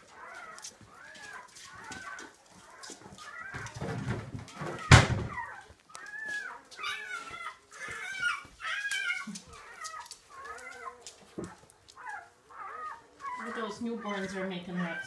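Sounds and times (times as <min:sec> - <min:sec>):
puppies whining and yipping: 0:00.0 - 0:15.0.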